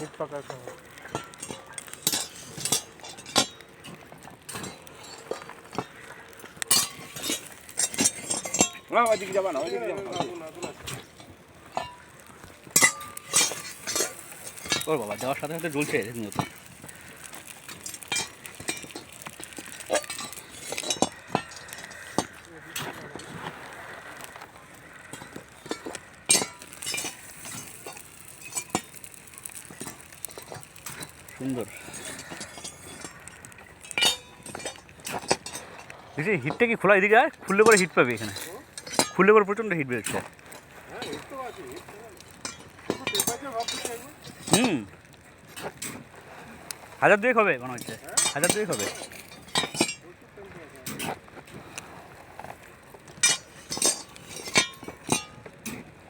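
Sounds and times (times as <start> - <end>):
coal lumps clinking on metal: 0.0 - 56.0
rattling rush of coal: 0.0 - 56.0.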